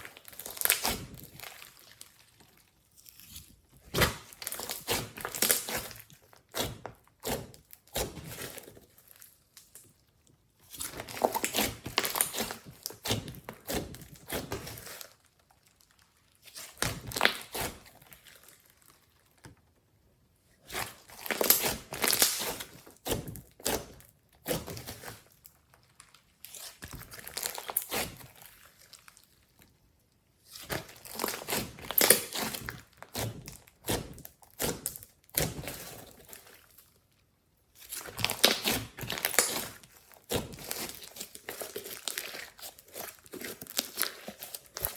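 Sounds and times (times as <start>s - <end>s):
slime clicking and crackling: 0.0s - 6.6s, 10.7s - 19.5s, 20.7s - 29.7s, 30.6s - 36.8s, 37.8s - 44.9s.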